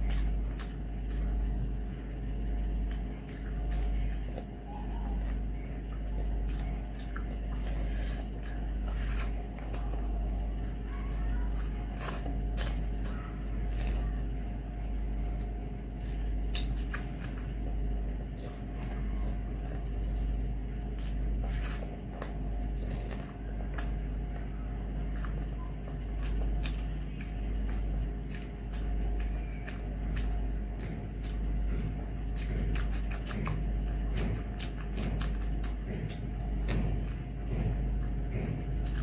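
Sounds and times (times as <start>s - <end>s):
chewing: 0.0s - 39.0s
low hum: 0.0s - 39.0s.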